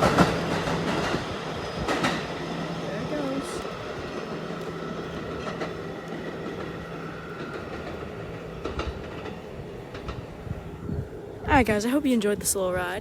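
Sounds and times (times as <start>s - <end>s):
subway train running on track: 0.0s - 13.0s.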